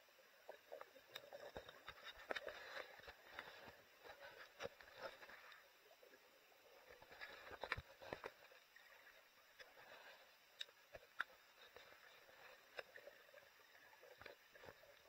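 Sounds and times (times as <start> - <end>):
faint underwater clicks and knocks: 0.4 - 15.0.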